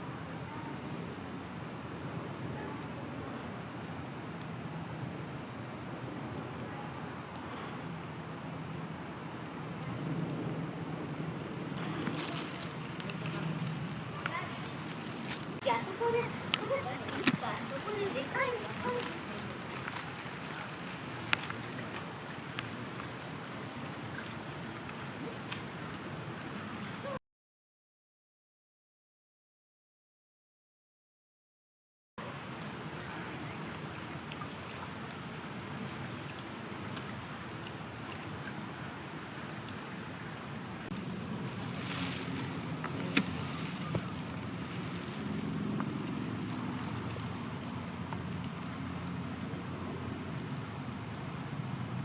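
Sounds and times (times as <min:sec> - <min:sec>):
outdoor background noise: 0:00.0 - 0:27.2, 0:32.2 - 0:52.0
wind-like hiss: 0:00.0 - 0:27.2, 0:32.2 - 0:52.0.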